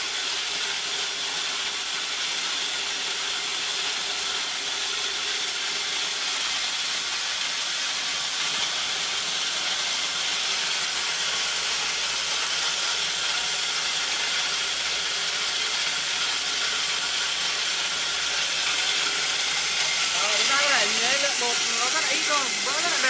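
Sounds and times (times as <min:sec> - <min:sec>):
electric grinder grinding corn: 0:00.0 - 0:23.0.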